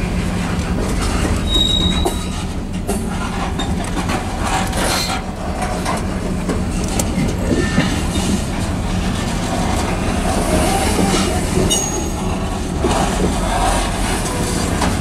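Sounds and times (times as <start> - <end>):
clickety-clack over rail joints: 0.0 - 15.0
freight train wheels rumbling: 0.0 - 15.0.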